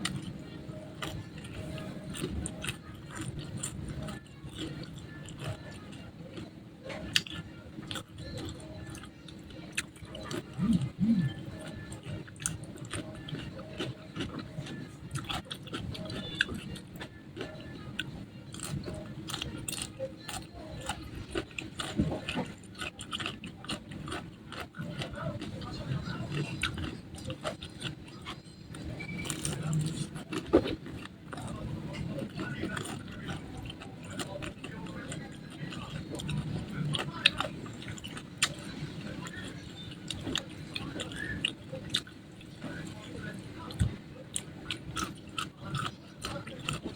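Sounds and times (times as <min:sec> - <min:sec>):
chewing crispy chicken: 0:00.0 - 0:46.9.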